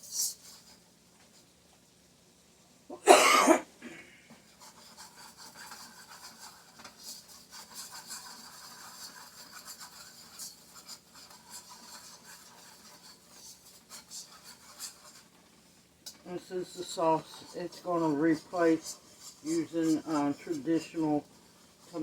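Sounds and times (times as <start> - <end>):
utensil scraping a pot: 0.0 - 1.6, 4.3 - 22.0.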